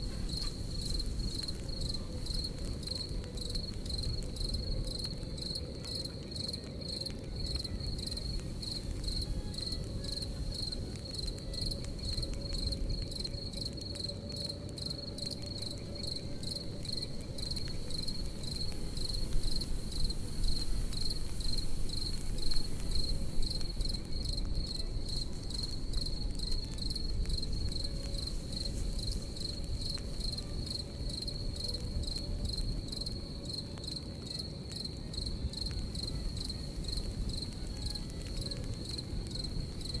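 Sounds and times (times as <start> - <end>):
campfire crackling and popping: 0.0 - 40.0
crickets chirping: 0.0 - 40.0.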